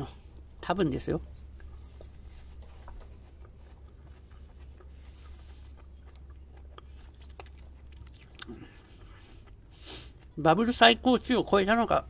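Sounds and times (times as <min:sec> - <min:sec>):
quiet chewing: 0:00.0 - 0:00.6, 0:01.2 - 0:10.5
steady low hum: 0:00.0 - 0:12.0.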